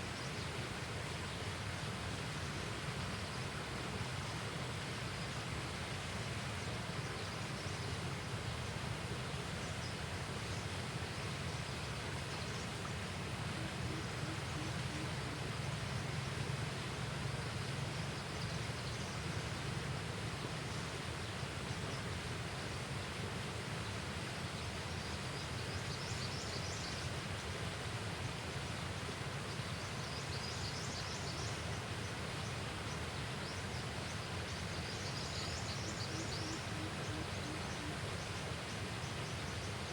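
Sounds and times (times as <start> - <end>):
river hiss: 0.0 - 39.9.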